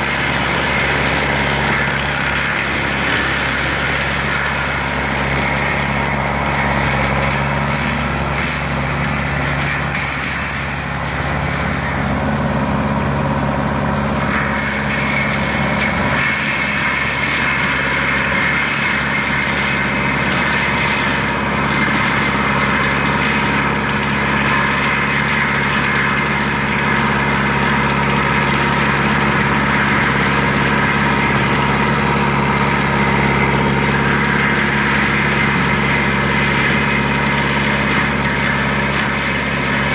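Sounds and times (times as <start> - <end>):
diesel engine running under load: 0.0 - 39.9
mulching head grinding brush: 0.0 - 39.9.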